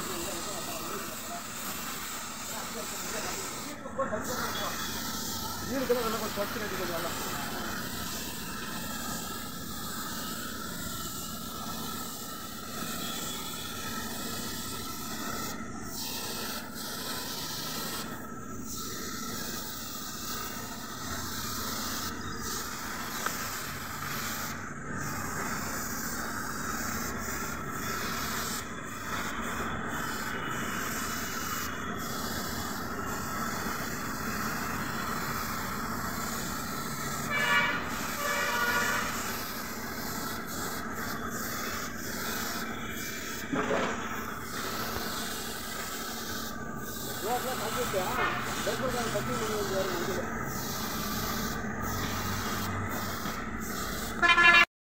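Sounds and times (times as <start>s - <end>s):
spray gun hissing: 0.0s - 54.7s.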